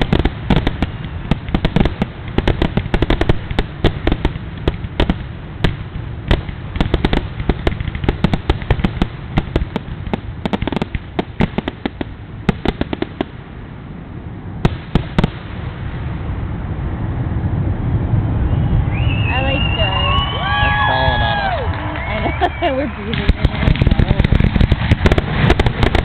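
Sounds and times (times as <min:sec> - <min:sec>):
fireworks bangs: 0:00.0 - 0:13.8, 0:14.6 - 0:16.9, 0:18.4 - 0:26.0
steady rushing noise: 0:00.0 - 0:26.0.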